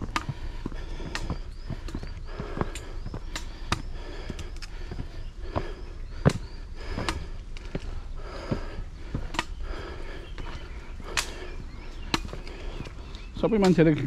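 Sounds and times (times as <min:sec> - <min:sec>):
footsteps on concrete: 0:00.0 - 0:14.0
steady low rumble: 0:00.0 - 0:14.0.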